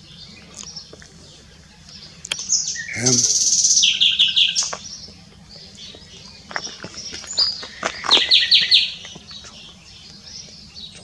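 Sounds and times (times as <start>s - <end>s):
nightingale singing: 0.0s - 11.0s.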